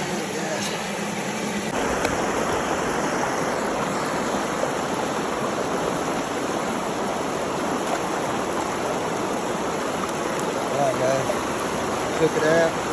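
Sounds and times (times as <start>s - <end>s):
creek water rushing over rocks: 0.0s - 12.9s.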